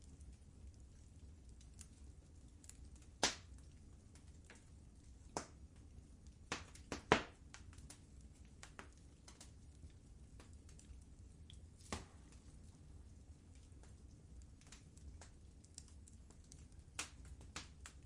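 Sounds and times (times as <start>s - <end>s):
faint low rumble: 0.0s - 18.0s
wood fire crackling: 0.0s - 18.0s
sharp pops from fire: 2.6s - 12.6s, 13.5s - 18.0s.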